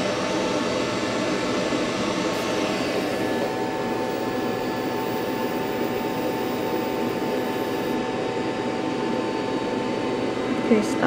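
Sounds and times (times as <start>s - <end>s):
machine cooling fans whirring: 0.0s - 11.0s.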